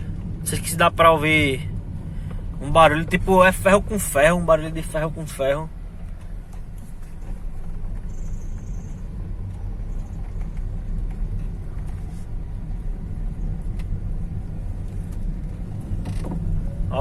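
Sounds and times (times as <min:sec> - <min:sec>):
car road rumble: 0:00.0 - 0:17.0.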